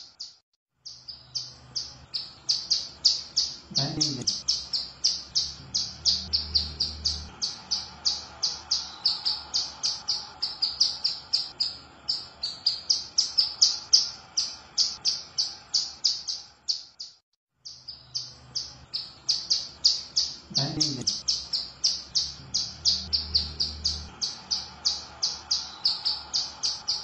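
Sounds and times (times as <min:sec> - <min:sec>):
bird chirps: 0:00.0 - 0:27.0.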